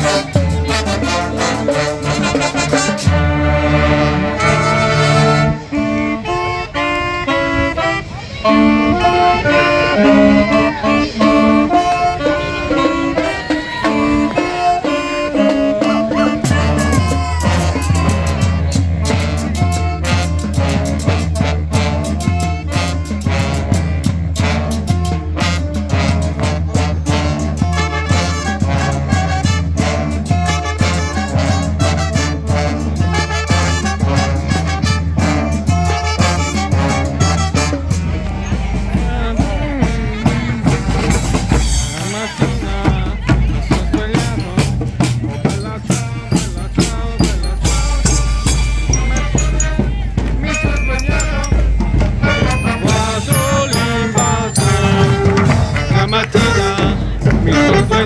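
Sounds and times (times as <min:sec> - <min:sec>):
dense busy drumming: 0:00.0 - 0:04.8, 0:13.0 - 0:58.0
brass street band playing: 0:00.0 - 0:58.0.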